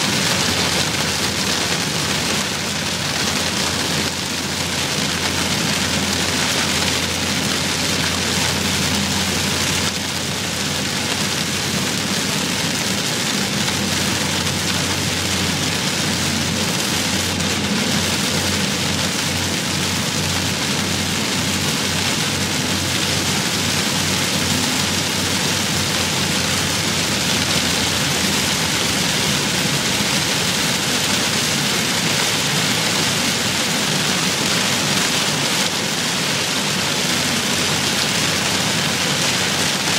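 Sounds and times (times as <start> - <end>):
car engine and tyres humming: 0.0 - 39.9
heavy rain hissing on car: 0.0 - 39.9.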